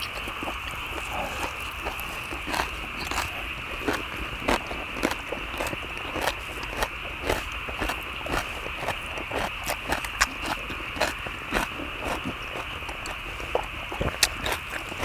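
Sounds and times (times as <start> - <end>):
people chewing and smacking: 0.0 - 15.0.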